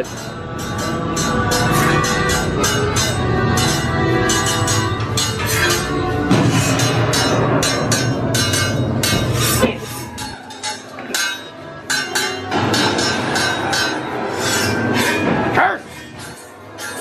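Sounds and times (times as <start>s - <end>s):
rhythmic metallic clanking: 0.0s - 17.0s.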